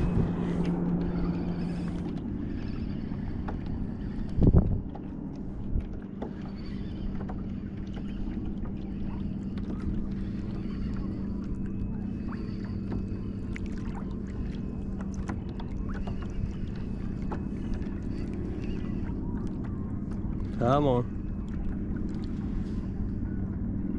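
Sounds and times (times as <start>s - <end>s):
motorboat engine drone: 0.0s - 23.9s
small water splashes: 0.0s - 23.9s.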